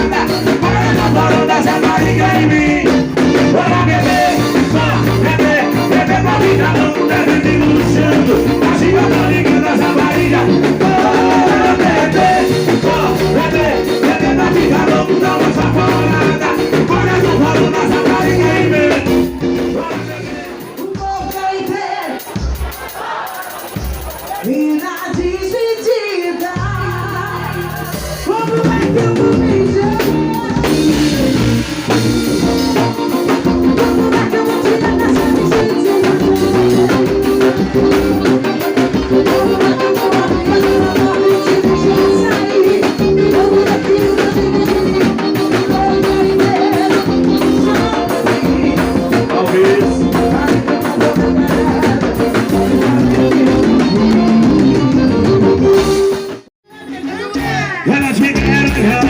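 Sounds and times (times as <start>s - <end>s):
drum kit beat: 0.0s - 59.0s
live band music: 0.0s - 59.0s.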